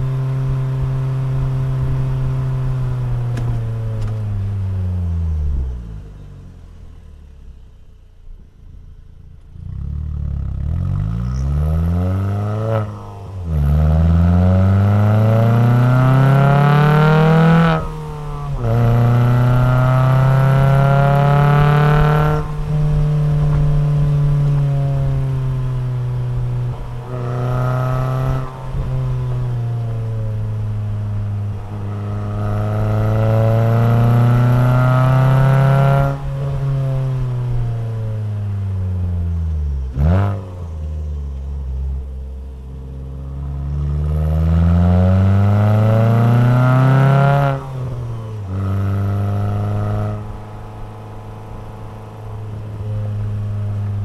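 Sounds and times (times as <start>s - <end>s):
car engine revving through gears: 9.4s - 54.0s.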